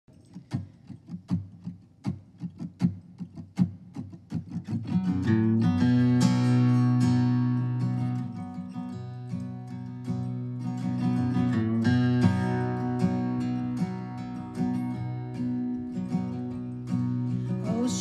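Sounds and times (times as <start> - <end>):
acoustic guitars strumming: 0.1 - 18.0.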